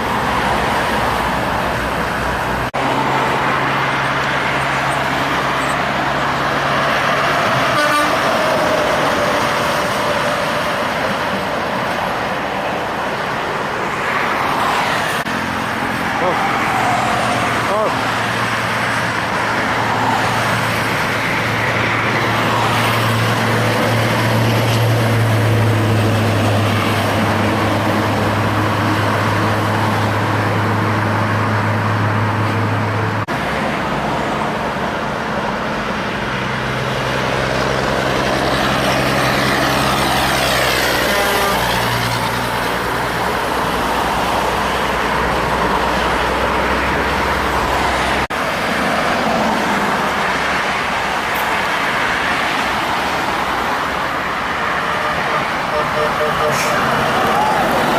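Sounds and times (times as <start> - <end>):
diesel truck engine drone: 0.0 - 57.9
tyre and road noise: 0.0 - 57.9.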